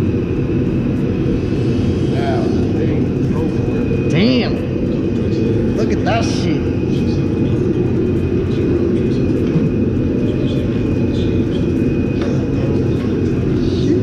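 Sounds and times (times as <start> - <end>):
low machine rumble: 0.0 - 14.0
thin high whine: 0.0 - 14.0.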